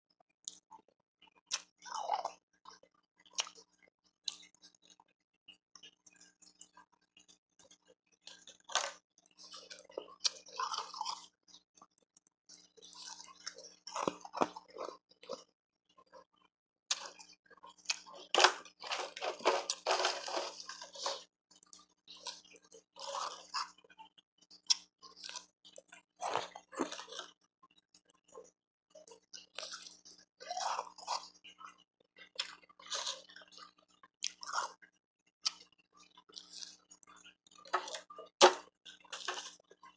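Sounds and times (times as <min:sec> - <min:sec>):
ice crunching and chewing: 0:01.2 - 0:05.0, 0:05.8 - 0:15.5, 0:16.9 - 0:28.0, 0:29.0 - 0:39.8.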